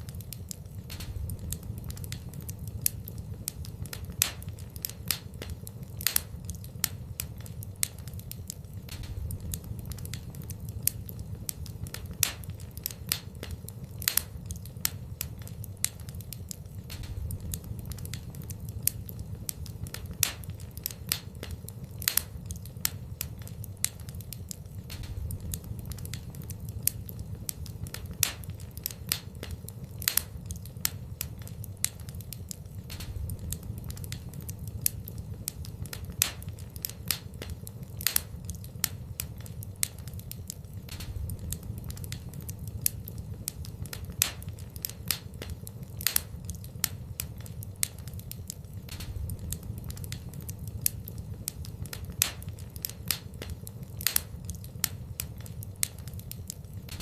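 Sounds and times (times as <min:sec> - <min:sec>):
fire crackling and popping: 0:00.0 - 0:57.0
steady low background: 0:00.0 - 0:57.0.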